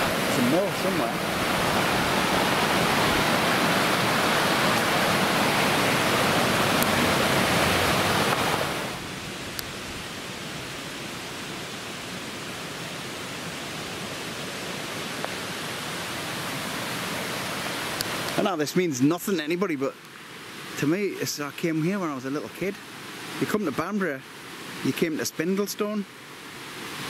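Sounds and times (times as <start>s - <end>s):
steady outdoor hiss: 0.0s - 27.0s
stream water rushing: 0.0s - 27.0s.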